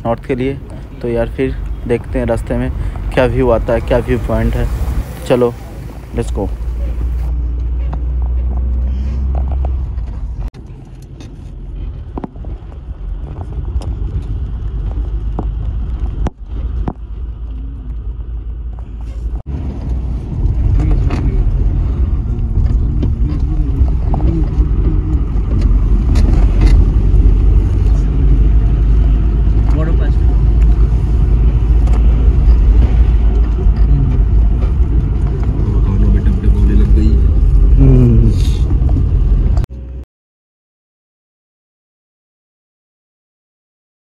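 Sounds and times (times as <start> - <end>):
car rumbling: 0.0 - 40.0.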